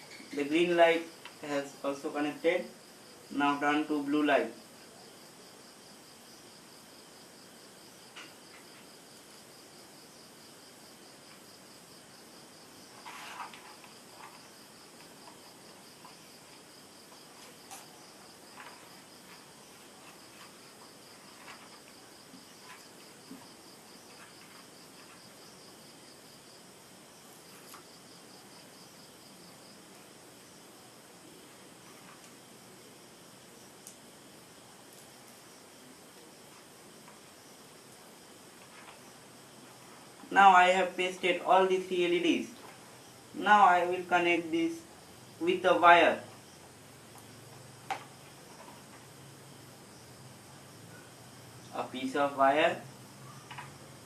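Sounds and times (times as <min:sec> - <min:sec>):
cricket chirping: 0:00.0 - 0:54.0
rustle: 0:00.0 - 0:54.0.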